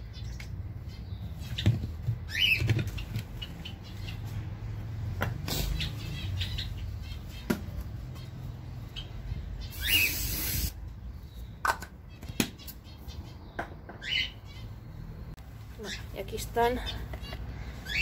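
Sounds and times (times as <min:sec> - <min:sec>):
aviary birds chirping: 0:00.0 - 0:18.0.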